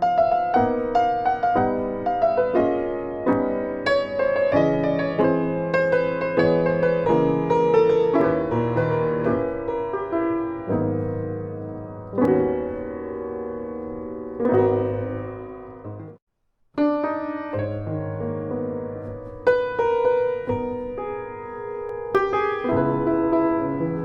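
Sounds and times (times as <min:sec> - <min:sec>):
slow piano chords: 0:00.0 - 0:16.2, 0:16.8 - 0:24.0.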